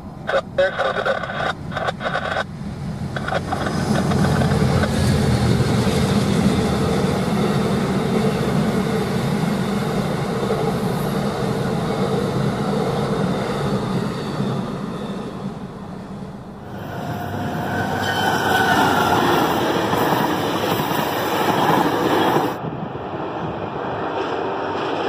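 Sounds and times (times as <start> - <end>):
passenger train passing: 0.0 - 0.7, 1.3 - 25.0.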